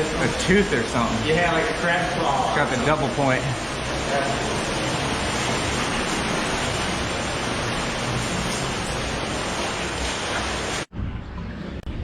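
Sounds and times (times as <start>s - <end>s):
water rushing in a cave stream: 0.0s - 10.9s.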